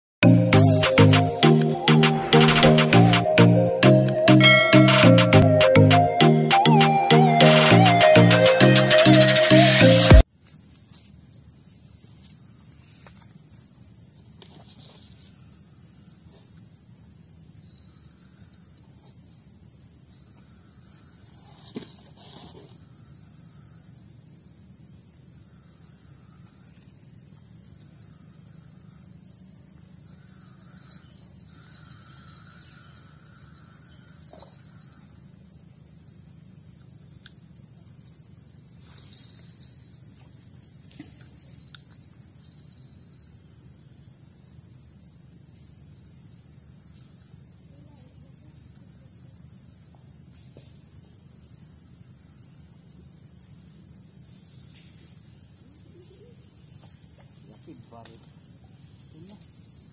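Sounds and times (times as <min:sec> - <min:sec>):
insects buzzing: 0:00.2 - 0:04.8, 0:05.5 - 0:59.9.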